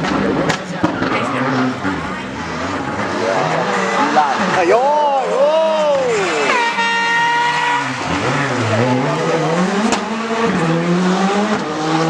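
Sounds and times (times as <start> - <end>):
rally car engine: 0.0 - 12.0.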